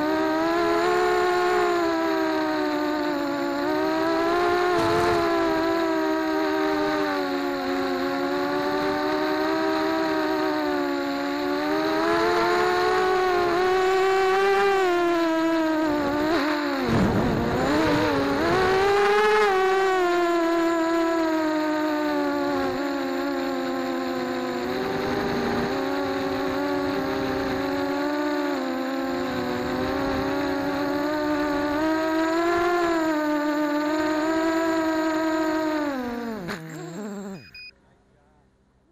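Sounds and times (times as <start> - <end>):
drone motors and propellers whining: 0.0 - 37.7.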